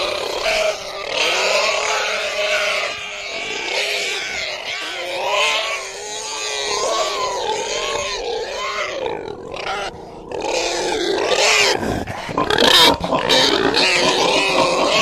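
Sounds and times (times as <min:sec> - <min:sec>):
pig grunting: 0:00.0 - 0:15.0.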